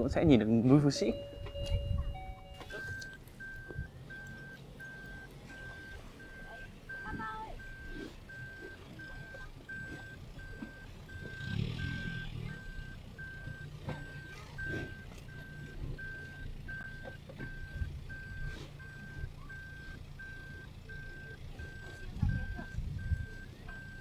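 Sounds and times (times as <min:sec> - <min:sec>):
reversing alarm beeping: 0:01.0 - 0:24.0.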